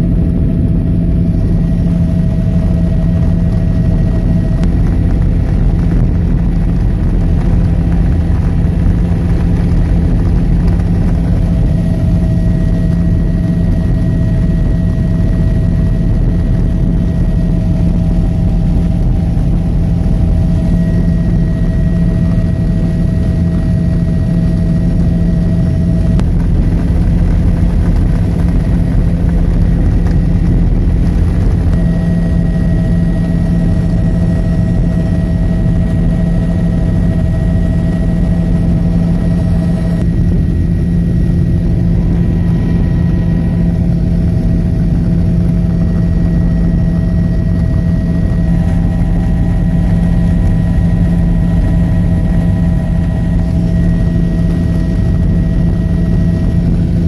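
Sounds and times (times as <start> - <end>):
helicopter rotor and turbine drone: 0.0 - 57.0.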